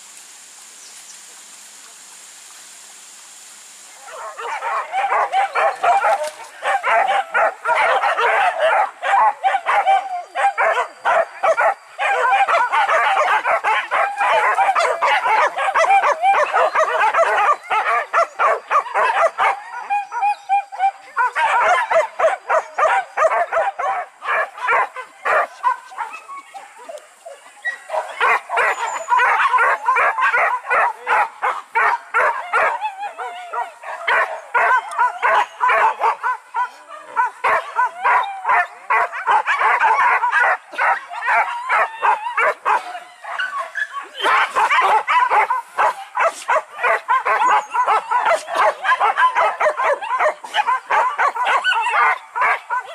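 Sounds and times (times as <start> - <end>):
dogs barking and yelping: 4.0 - 52.9.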